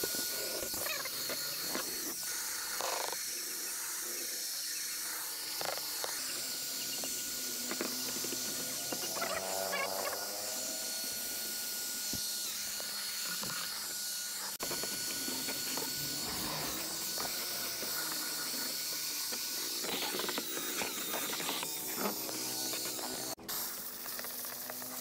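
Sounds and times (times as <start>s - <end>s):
high-pitched hiss of cleaning tool: 0.0s - 25.0s.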